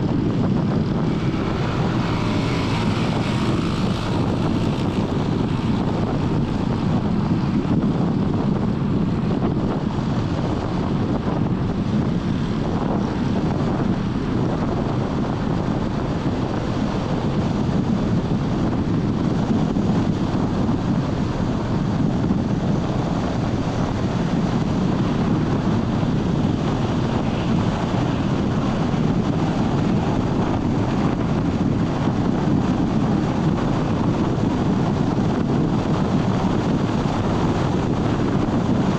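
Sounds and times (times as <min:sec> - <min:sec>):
car tyres and engine rumble: 0:00.0 - 0:38.9
wind noise: 0:00.0 - 0:38.9.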